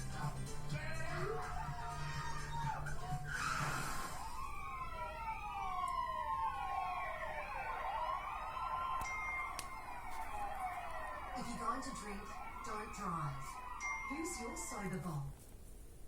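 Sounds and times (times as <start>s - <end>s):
emergency siren wailing: 1.1s - 15.1s.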